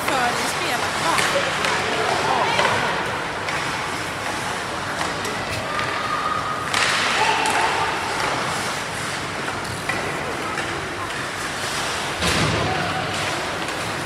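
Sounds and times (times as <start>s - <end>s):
faint spectators' voices: 0.0s - 14.0s
steady hall hum: 0.0s - 14.0s
ice skates scraping: 0.2s - 12.2s, 13.0s - 14.0s.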